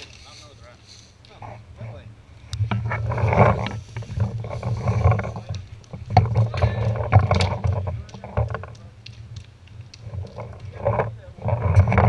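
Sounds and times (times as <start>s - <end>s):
muffled voices: 0.0s - 2.2s, 2.9s - 9.1s, 10.1s - 12.0s
footsteps and movement: 0.0s - 12.0s.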